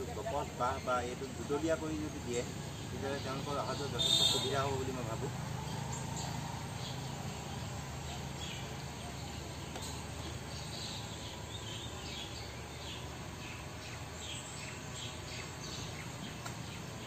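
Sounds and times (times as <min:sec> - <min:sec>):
open-air ambience hiss: 0:00.0 - 0:17.0
small birds chirping: 0:00.0 - 0:17.0.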